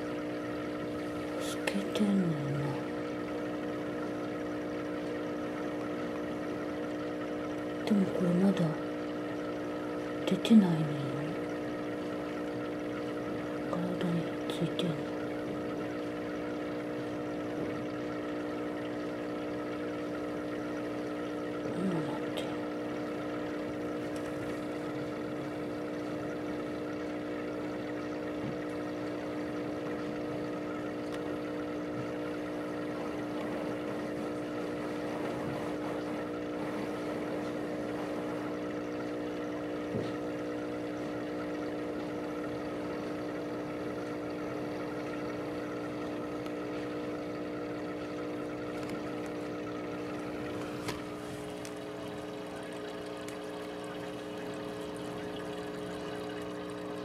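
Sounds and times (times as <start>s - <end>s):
air pump humming: 0.0s - 57.0s
filter bubbling: 0.0s - 57.0s.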